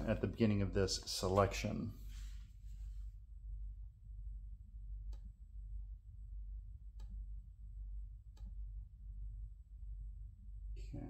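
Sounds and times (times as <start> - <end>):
faint high-pitched whine: 0.0 - 11.0
low steady hum: 0.0 - 11.0.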